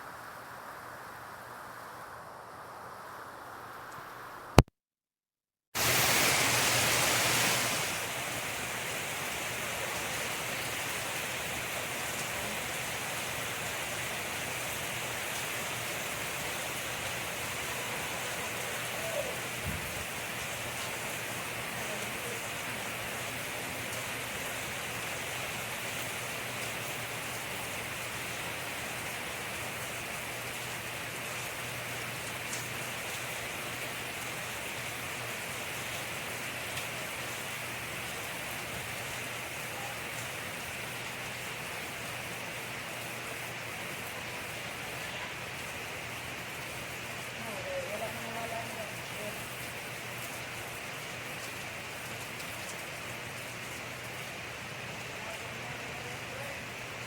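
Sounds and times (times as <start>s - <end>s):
steady rain hiss: 0.0s - 4.7s, 5.8s - 57.0s.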